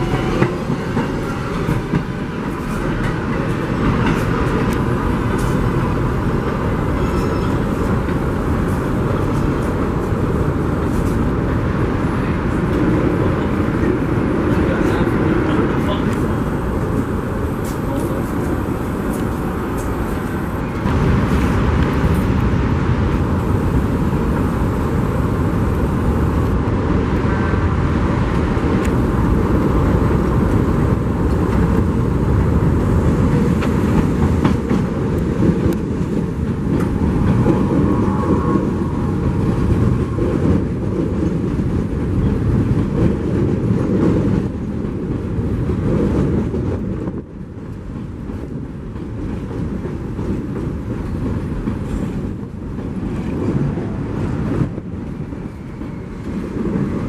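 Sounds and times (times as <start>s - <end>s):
rail clicks: 0.0s - 57.0s
train wheels rumbling on rails: 0.0s - 57.0s.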